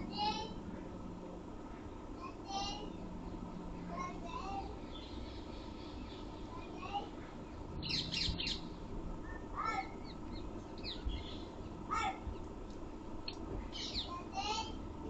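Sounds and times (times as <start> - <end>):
birds calling with falling pitch: 1.9 - 12.5, 13.2 - 14.7.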